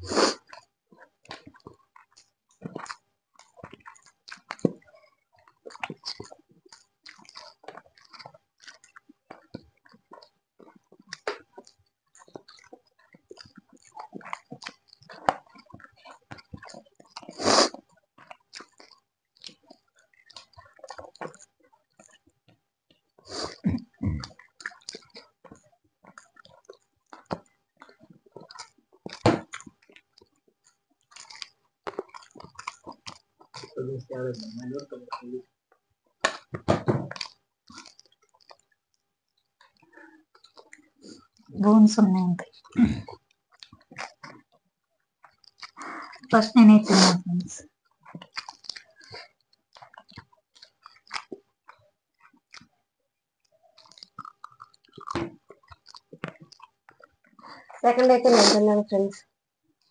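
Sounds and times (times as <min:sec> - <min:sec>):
people chewing food: 0:00.0 - 0:59.9.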